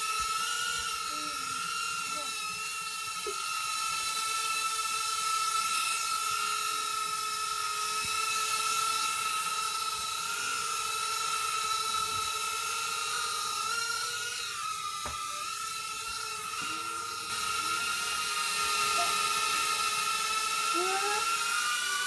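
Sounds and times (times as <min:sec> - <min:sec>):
small drone high-pitched whine: 0:00.0 - 0:22.0.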